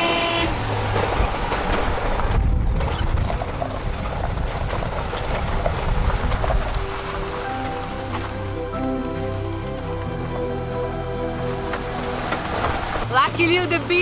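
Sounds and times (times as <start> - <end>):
engine and tyres rumbling: 0.0 - 14.0
road and wind noise: 0.0 - 14.0.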